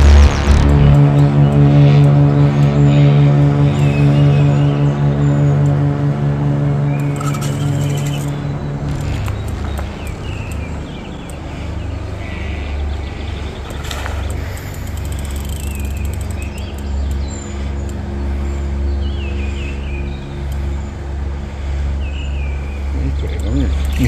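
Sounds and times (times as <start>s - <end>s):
birds chirping: 0.0s - 24.0s
steady low rumble: 0.0s - 24.0s.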